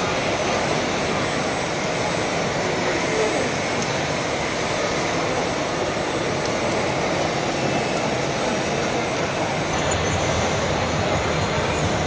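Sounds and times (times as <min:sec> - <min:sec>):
hydraulic model excavators: 0:00.0 - 0:12.0
radio-controlled model trucks: 0:00.0 - 0:12.0.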